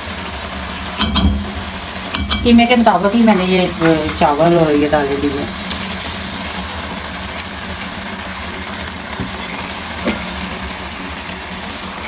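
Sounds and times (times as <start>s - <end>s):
meat sizzling in a pot: 0.0s - 12.0s
low hum: 0.6s - 12.0s.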